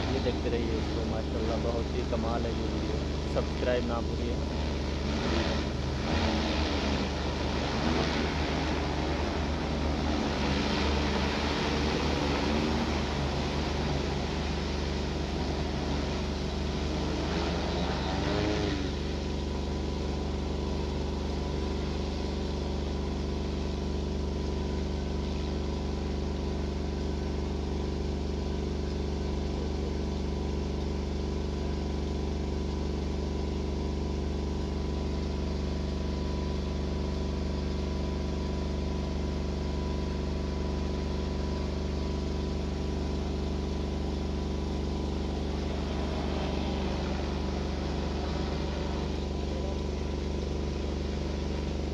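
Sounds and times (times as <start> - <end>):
drone propellers humming: 0.0 - 30.6, 36.4 - 51.9.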